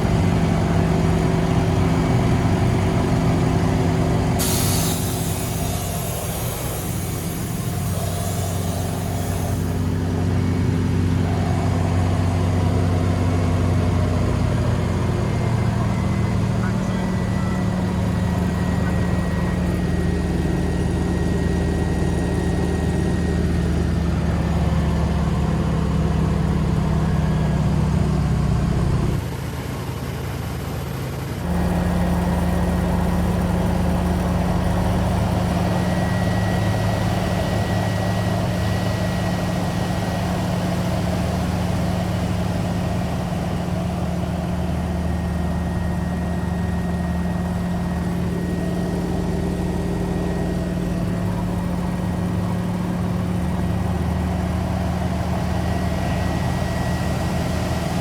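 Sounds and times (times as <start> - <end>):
radial aircraft engine running: 0.0 - 58.0.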